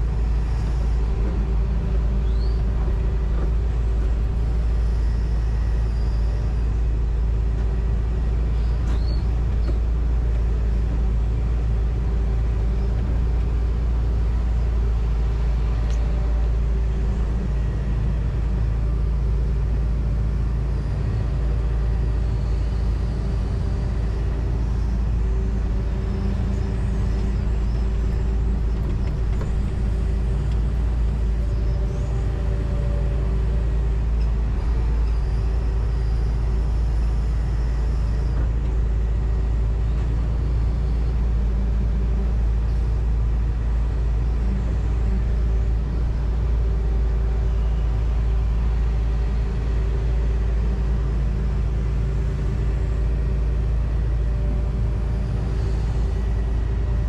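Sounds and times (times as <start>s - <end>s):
excavator diesel engine drone: 0.0s - 57.0s
faint steady hum: 0.0s - 57.0s.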